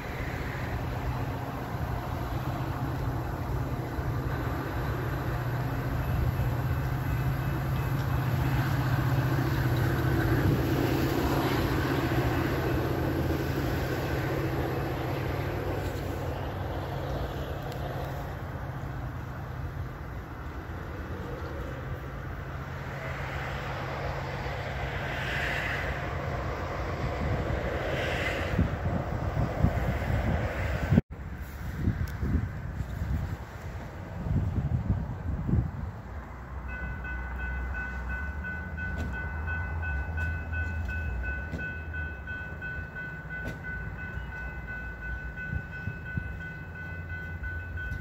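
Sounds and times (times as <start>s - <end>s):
diesel train engine drone: 0.0s - 48.0s.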